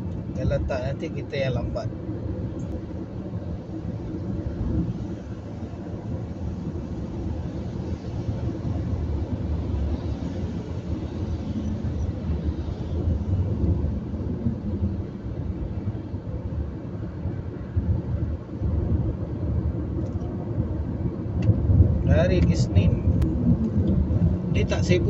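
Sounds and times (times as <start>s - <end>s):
car driving on a wet road: 0.0s - 25.0s.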